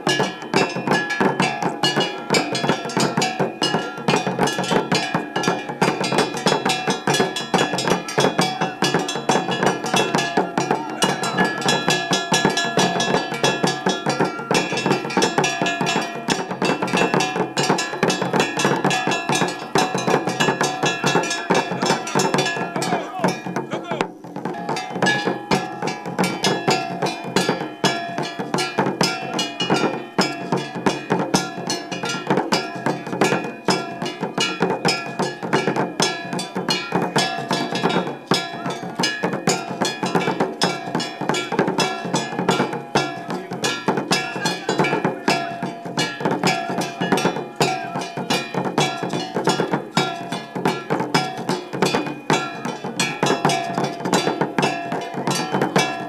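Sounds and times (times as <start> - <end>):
fast dense drumming: 0.0 - 56.0.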